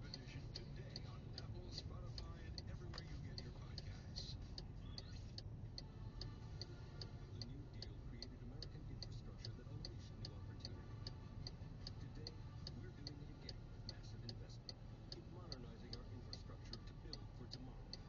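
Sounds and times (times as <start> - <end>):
faint regular ticking: 0.0 - 18.0
low steady hum: 0.0 - 18.0.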